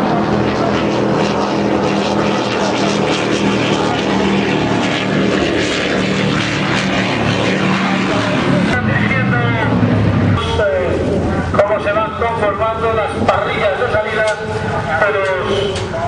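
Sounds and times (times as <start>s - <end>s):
powerboat engines droning: 0.0s - 16.0s.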